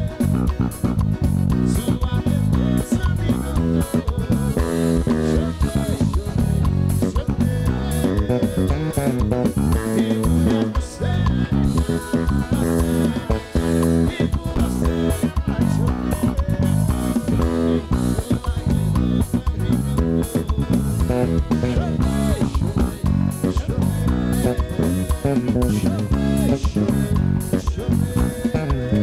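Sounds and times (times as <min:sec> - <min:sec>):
electric bass guitar: 0:00.0 - 0:29.0
live band music: 0:00.0 - 0:29.0.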